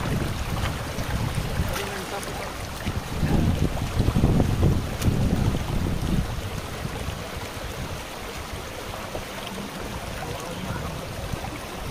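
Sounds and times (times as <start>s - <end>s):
stream running over rocks: 0.0s - 11.9s.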